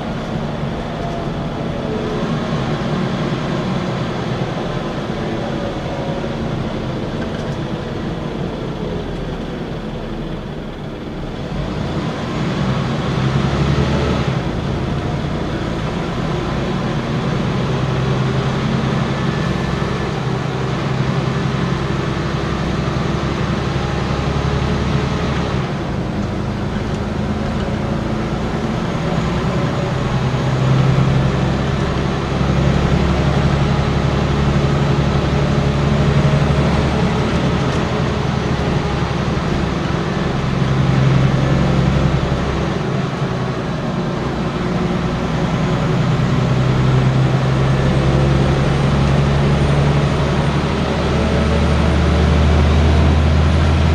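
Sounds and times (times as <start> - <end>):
bus engine running: 0.0 - 53.9.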